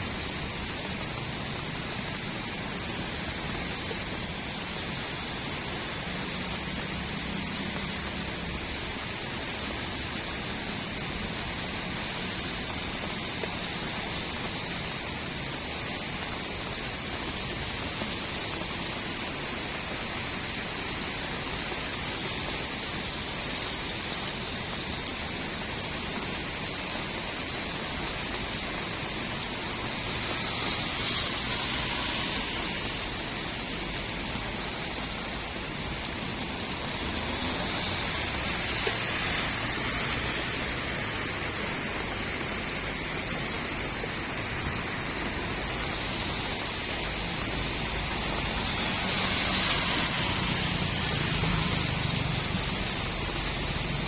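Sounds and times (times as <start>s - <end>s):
rain falling on a street: 0.0s - 54.0s
water running and gurgling: 0.0s - 54.0s.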